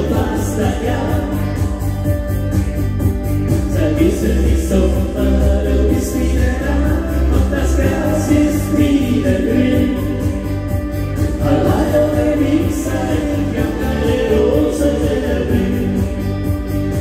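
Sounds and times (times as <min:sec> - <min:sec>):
choir-like vocals: 0:00.0 - 0:02.0, 0:03.7 - 0:17.0
pop song on keyboard and guitar: 0:00.0 - 0:17.0
steady beat: 0:00.0 - 0:17.0.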